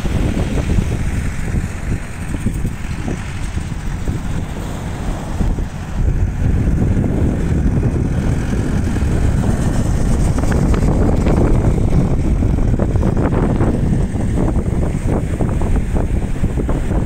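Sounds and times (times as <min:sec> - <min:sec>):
tractor engine running: 0:00.0 - 0:17.0
wind buffeting microphone: 0:00.0 - 0:17.0.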